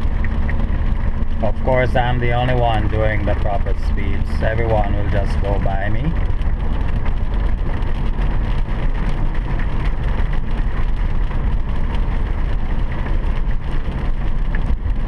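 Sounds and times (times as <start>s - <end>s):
tyres on wet pavement: 0.0s - 15.0s.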